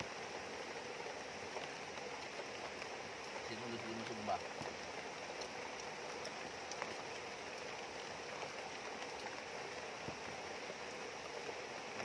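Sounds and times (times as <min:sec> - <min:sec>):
river rushing over rocks: 0:00.0 - 0:12.0
steady rain falling: 0:00.0 - 0:12.0.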